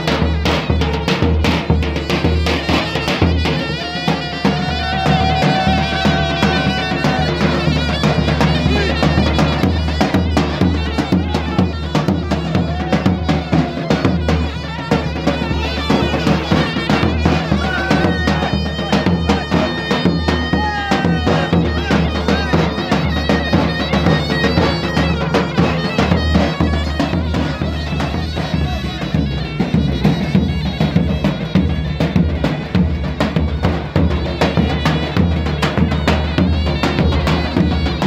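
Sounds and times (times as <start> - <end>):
wind instrument melody: 0.0 - 38.0.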